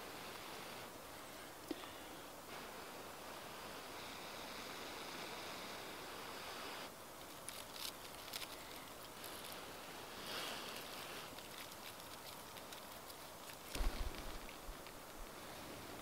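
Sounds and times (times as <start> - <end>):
light crackles: 0.0 - 16.0
person blowing steadily: 0.0 - 16.0.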